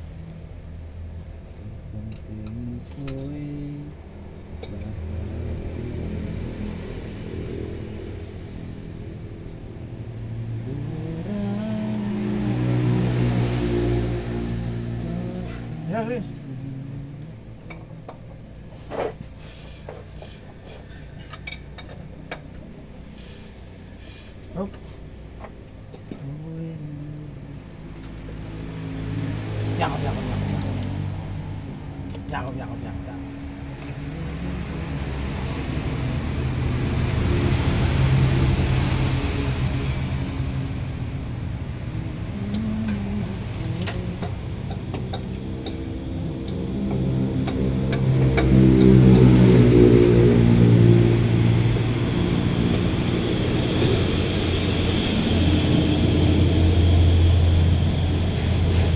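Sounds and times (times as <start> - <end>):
diesel truck engine running: 0.0 - 58.9.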